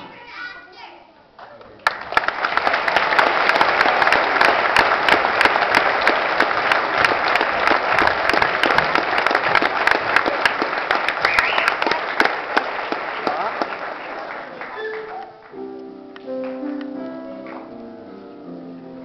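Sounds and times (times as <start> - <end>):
audience applauding: 1.4 - 17.8.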